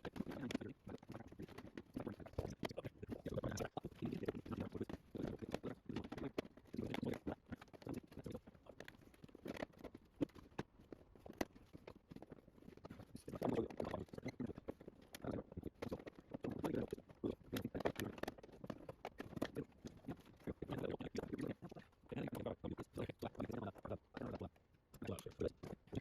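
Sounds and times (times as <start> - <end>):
hands clicking and tapping small parts: 0.0 - 26.0.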